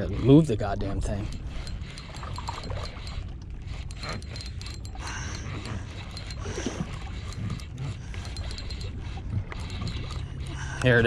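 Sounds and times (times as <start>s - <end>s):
spinning reel cranking: 0.0s - 11.0s
water moving around boat: 0.0s - 11.0s.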